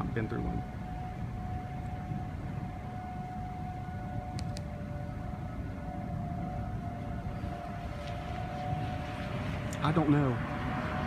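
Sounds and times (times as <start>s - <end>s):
warning sirens held tones: 0.0s - 11.0s.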